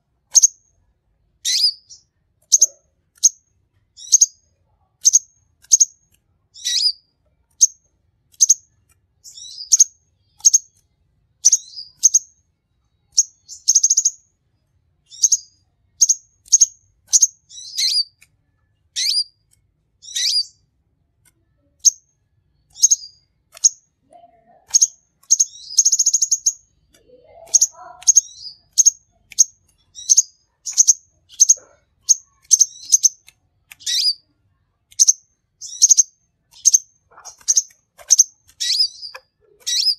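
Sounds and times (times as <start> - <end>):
bird chirping and trilling: 0.3 - 0.6, 1.4 - 3.4, 4.0 - 10.8, 11.4 - 12.4, 13.0 - 14.3, 15.0 - 18.2, 18.8 - 19.4, 20.0 - 20.7, 21.6 - 34.3, 34.9 - 39.9.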